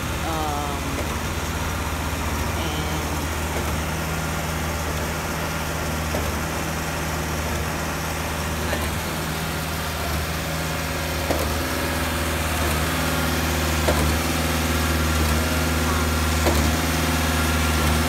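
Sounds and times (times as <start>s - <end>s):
diesel engines idling: 0.0s - 18.0s.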